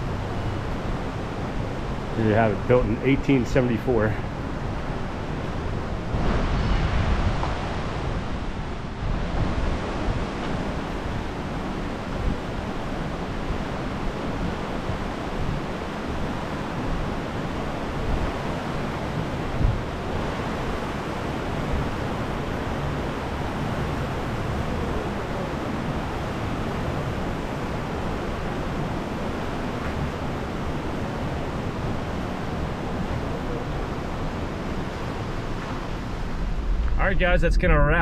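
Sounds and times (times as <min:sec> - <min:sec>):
white water rushing: 0:00.0 - 0:38.0.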